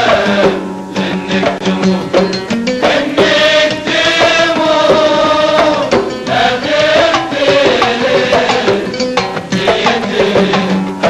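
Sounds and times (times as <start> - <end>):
hand drum percussion: 0.0 - 11.0.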